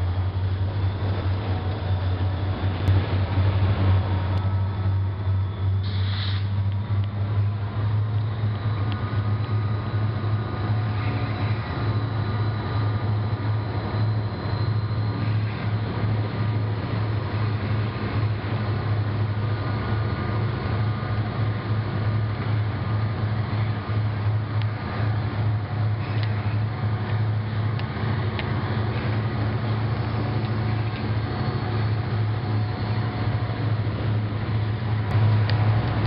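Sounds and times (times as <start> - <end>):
diesel locomotive engines droning: 0.0 - 36.0.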